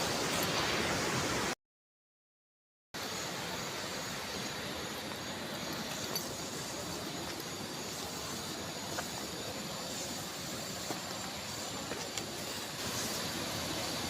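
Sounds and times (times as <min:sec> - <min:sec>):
river water rushing: 0:00.0 - 0:01.6, 0:03.0 - 0:14.0.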